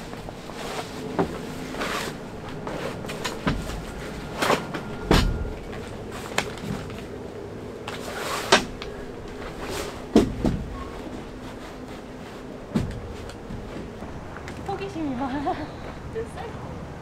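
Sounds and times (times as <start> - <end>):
nylon bags rustling: 0.0 - 15.6.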